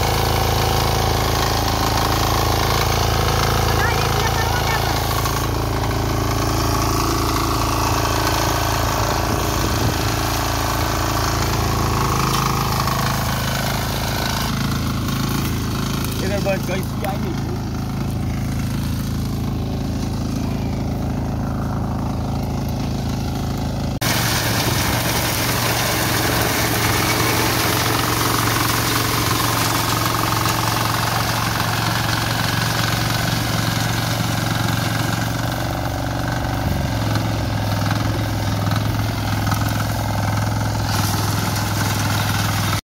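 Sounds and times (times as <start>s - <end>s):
reaper engine running: 0.0s - 42.8s.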